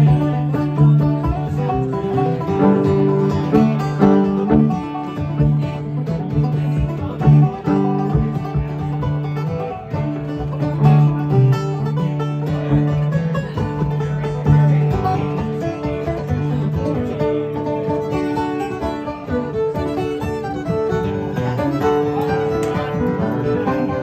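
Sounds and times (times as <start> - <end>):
bluegrass string band playing: 0.0 - 24.0.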